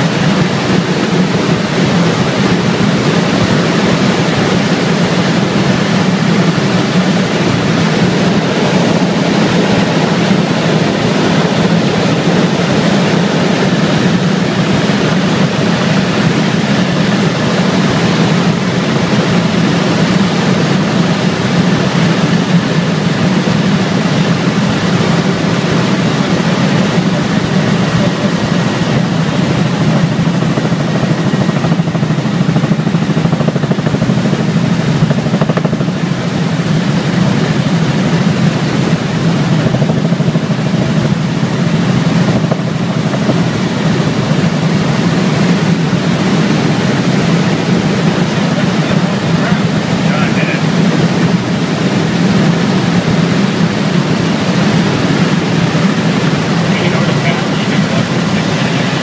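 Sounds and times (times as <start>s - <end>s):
helicopter cabin noise: 0.0s - 59.0s.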